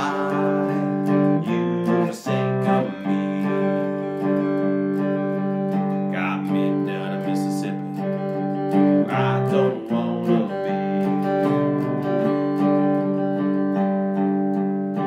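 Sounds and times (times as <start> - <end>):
slide guitar playing: 0.0 - 15.0.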